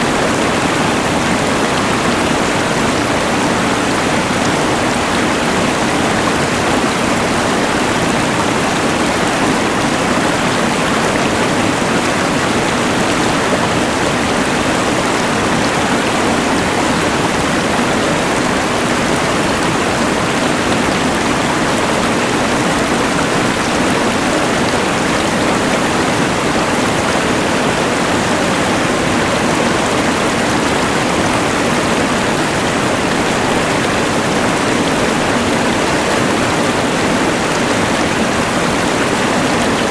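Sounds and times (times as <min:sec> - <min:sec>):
rushing river: 0:00.0 - 0:39.9.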